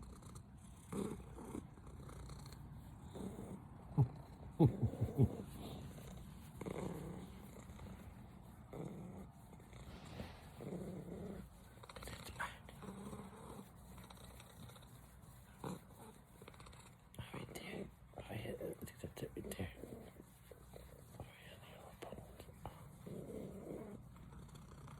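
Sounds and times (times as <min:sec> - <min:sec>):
cat purring: 0:00.0 - 0:24.9.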